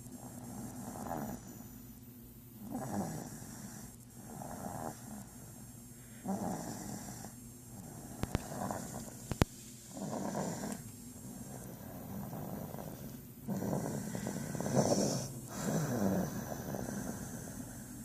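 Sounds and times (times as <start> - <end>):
slow regular snoring: 0.0 - 1.9, 2.6 - 18.0.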